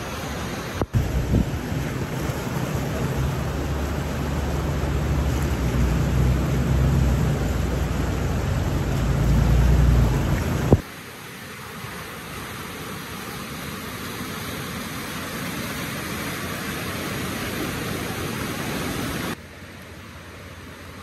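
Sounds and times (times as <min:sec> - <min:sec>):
floodwater rushing down a creek: 0:00.0 - 0:21.0.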